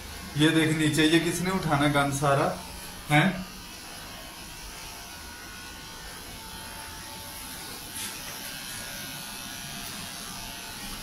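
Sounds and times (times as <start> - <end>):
electric clippers buzzing: 0.0 - 11.0.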